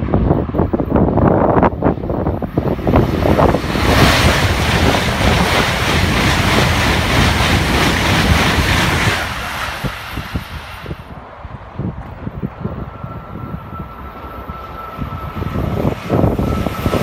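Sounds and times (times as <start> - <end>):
high-speed train passing: 0.0 - 17.0
wind buffeting microphone: 0.0 - 17.0.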